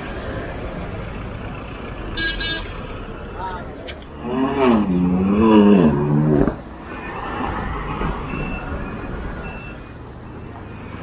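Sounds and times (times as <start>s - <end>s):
passing traffic: 0.0s - 11.0s.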